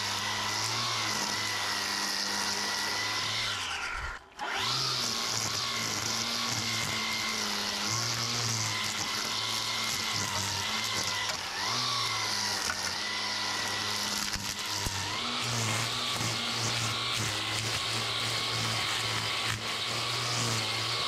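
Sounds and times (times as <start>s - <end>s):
string trimmer cutting grass: 0.0s - 21.0s.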